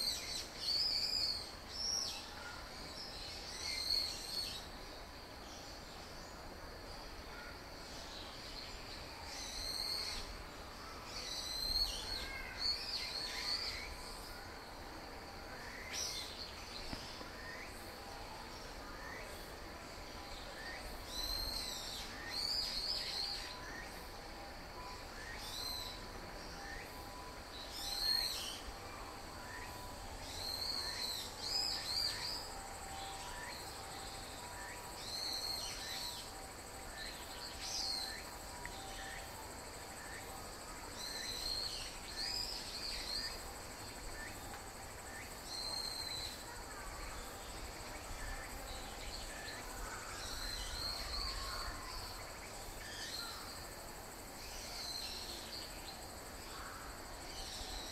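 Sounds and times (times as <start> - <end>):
faint background hiss: 0.0 - 57.9.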